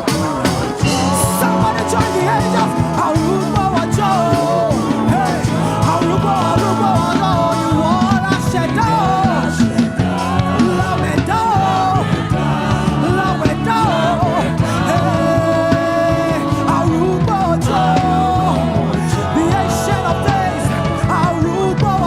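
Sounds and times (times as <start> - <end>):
bass: 0.0 - 22.0
person singing: 0.0 - 22.0
sustained keyboard chords: 0.0 - 22.0.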